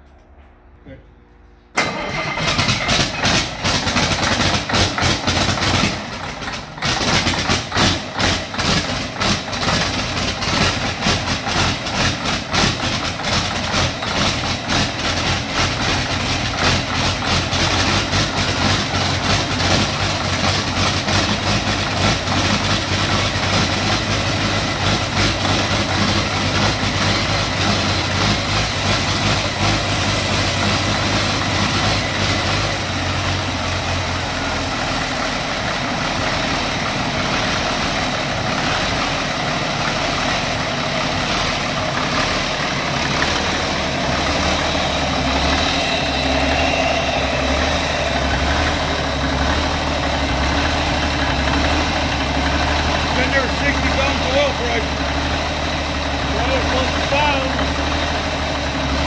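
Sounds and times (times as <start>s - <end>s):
turbocharger high whine: 0.0s - 59.0s
diesel engine running: 1.2s - 59.0s.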